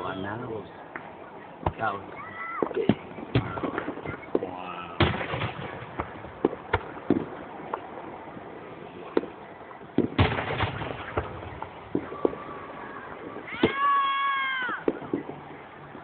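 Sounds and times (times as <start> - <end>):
fireworks bangs and crackle: 0.0 - 16.0.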